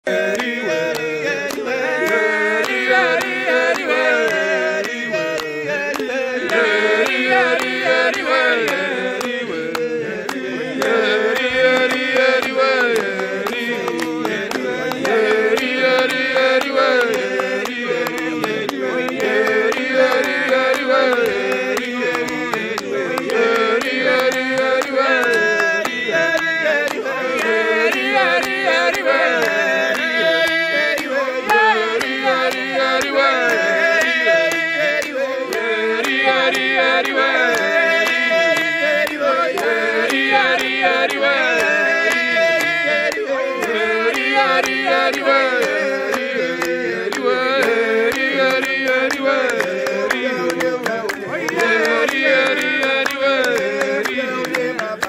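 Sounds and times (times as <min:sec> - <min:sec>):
hand-clapping: 0:00.0 - 0:55.0
men singing in harmony: 0:00.0 - 0:55.0.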